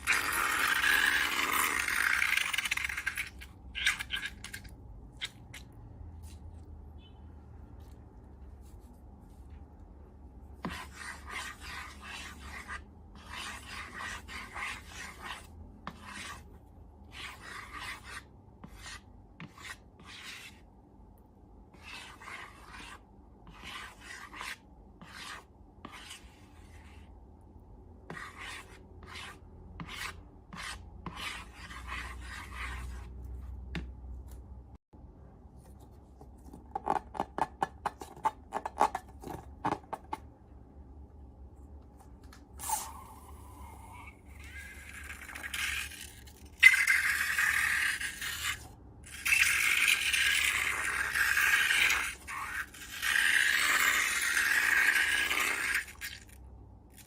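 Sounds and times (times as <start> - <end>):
scraping and rubbing slime: 0.0 - 7.1, 7.8 - 20.8, 21.7 - 27.2, 28.1 - 34.5, 42.6 - 57.0.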